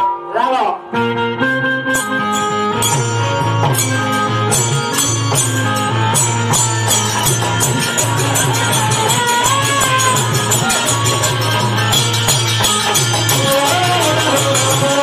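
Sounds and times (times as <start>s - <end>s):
melody line: 0.8s - 15.0s
steady drum beat: 2.4s - 15.0s.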